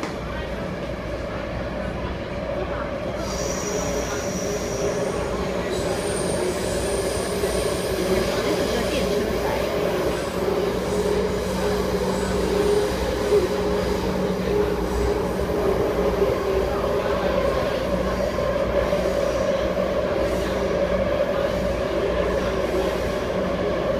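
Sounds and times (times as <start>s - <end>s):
constant train whine: 0.0s - 23.9s
metro train rumble: 0.0s - 23.9s.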